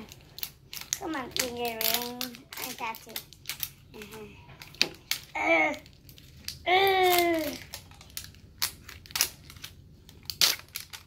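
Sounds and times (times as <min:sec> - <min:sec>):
wrapping crinkling and tearing: 0:00.0 - 0:11.0.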